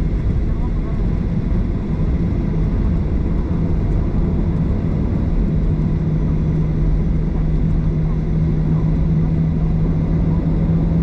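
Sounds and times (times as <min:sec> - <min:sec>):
constant cabin hum: 0:00.0 - 0:11.0
jet engines rumbling: 0:00.0 - 0:11.0.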